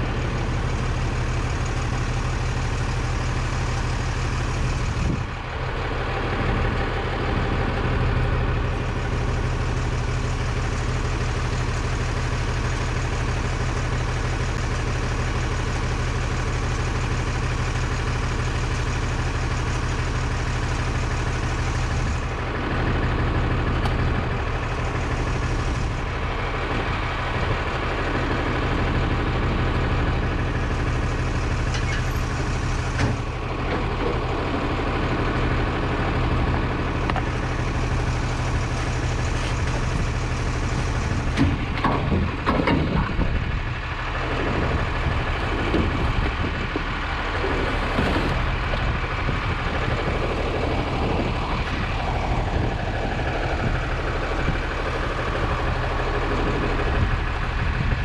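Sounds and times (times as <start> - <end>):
garbage truck engine idling: 0.0 - 58.0.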